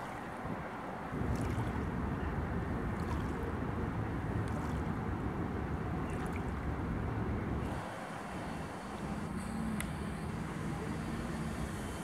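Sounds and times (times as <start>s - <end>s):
water lapping at bank: 0.0s - 12.0s.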